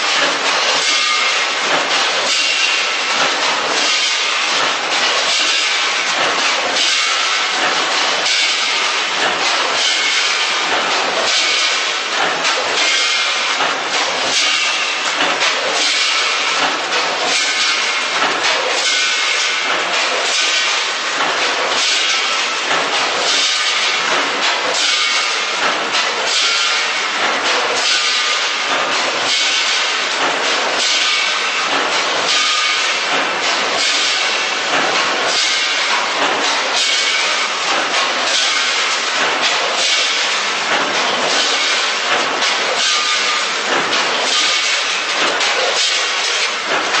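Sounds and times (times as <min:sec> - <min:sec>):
packing machine running: 0:00.0 - 0:47.0.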